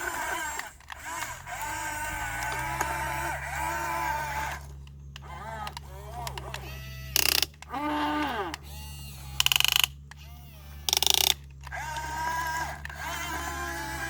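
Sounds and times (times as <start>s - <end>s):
rapid ratchet-like clicking: 0.0s - 7.8s, 8.6s - 14.0s
small electric motors whining: 0.0s - 14.0s.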